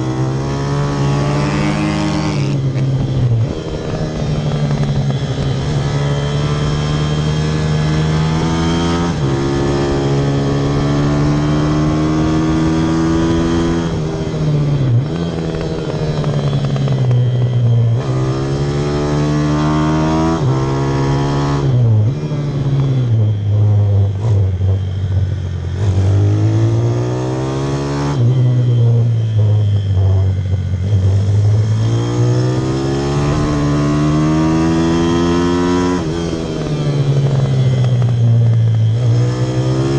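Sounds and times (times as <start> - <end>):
pit bike engine accelerating: 0.0 - 39.9.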